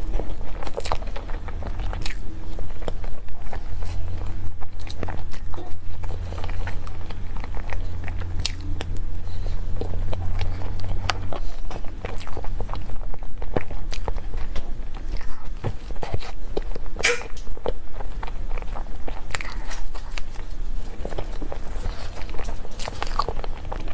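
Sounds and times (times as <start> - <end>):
cake being chewed: 0.0 - 23.9
steady low hum: 0.0 - 23.9.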